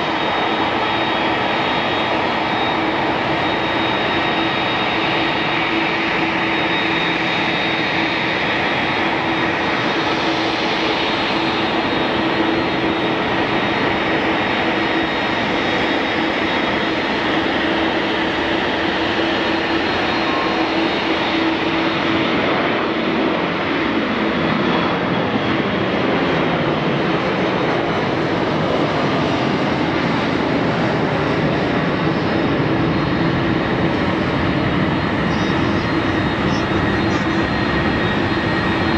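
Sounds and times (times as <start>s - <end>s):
jet engine roar: 0.0s - 38.9s.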